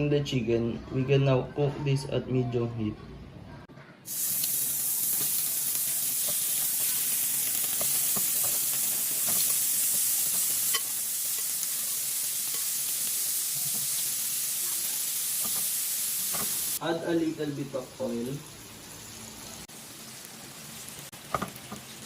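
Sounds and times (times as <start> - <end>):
food sizzling in a frying pan: 4.1 - 22.0.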